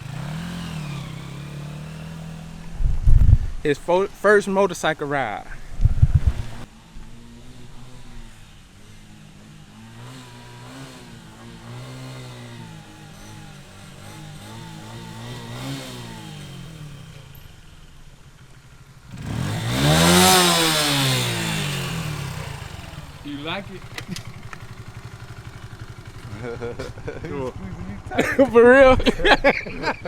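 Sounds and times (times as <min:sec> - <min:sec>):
motorcycle passing by: 0:00.0 - 0:03.6, 0:05.8 - 0:30.0
motorcycle engine revving: 0:00.0 - 0:04.8, 0:05.5 - 0:30.0.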